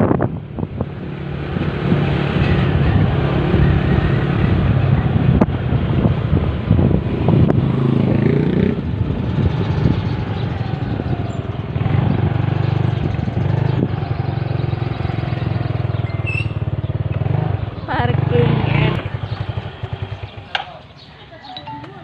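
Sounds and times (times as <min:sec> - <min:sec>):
motorcycle engine running: 0:02.8 - 0:20.6.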